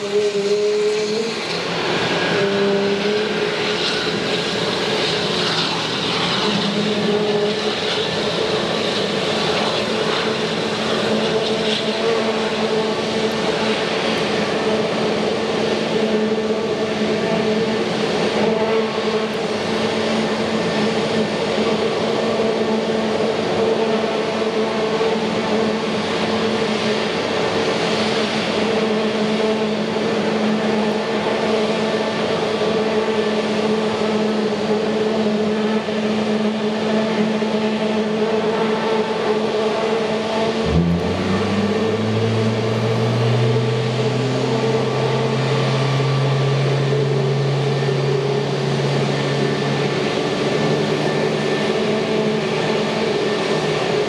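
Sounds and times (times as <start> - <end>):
jet engines droning: 0.0 - 54.0.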